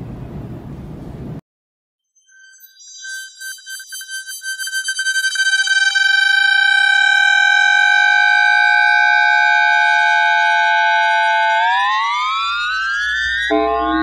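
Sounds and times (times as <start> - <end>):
train inverter whine rising in pitch: 2.2 - 14.0.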